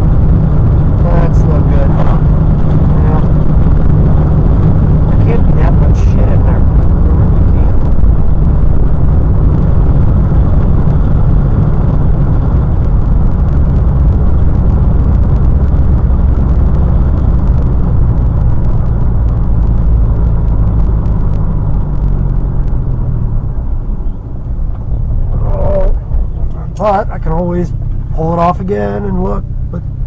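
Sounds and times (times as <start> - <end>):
car cabin engine and road noise: 0.0 - 30.0.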